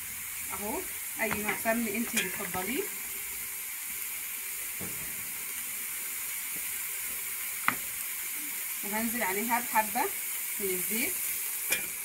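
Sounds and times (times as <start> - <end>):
onion sizzling in a pot: 0.0 - 12.0.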